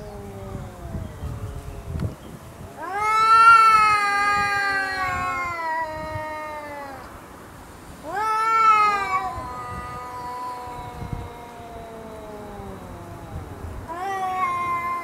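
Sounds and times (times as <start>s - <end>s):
cats yowling at each other: 0.0s - 1.7s, 2.7s - 7.1s, 8.0s - 15.0s.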